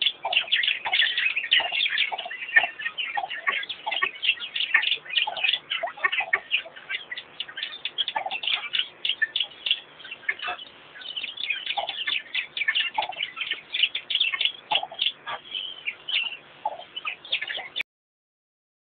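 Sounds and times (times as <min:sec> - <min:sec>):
small birds chirping: 0:00.0 - 0:17.8.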